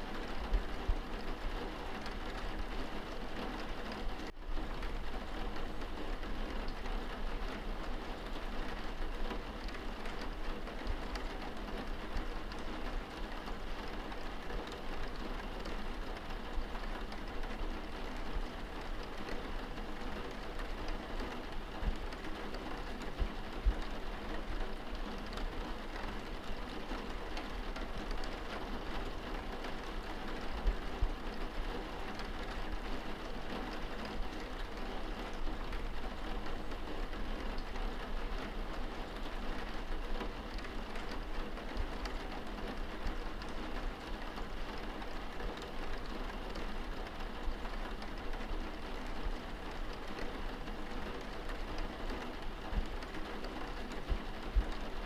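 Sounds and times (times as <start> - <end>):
rain on window glass: 0.0 - 55.0.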